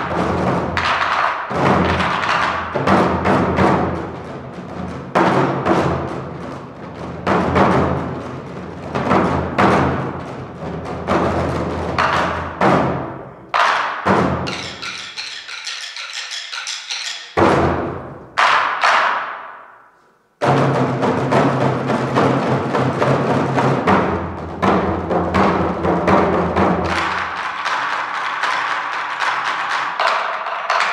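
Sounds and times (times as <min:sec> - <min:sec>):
quick drum strikes: 0:00.0 - 0:19.5, 0:20.4 - 0:30.9.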